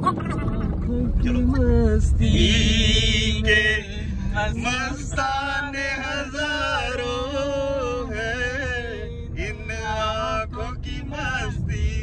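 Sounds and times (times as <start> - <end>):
car rumble while driving: 0.0 - 12.0.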